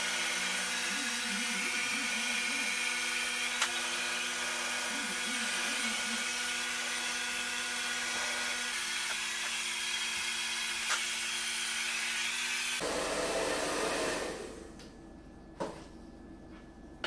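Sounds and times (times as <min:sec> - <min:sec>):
hair dryer blowing: 0:00.0 - 0:14.8.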